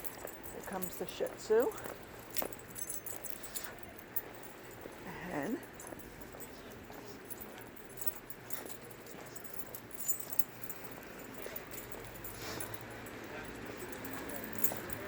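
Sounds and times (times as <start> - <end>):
collar tags jingling: 0.0 - 15.0.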